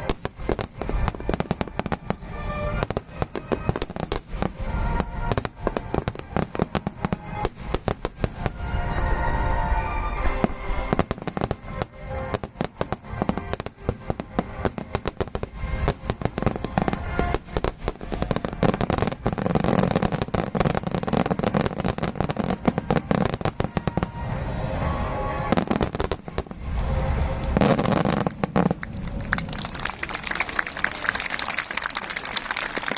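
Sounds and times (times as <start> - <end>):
music: 0.0 - 28.3
fireworks bursting and crackling: 0.0 - 32.9.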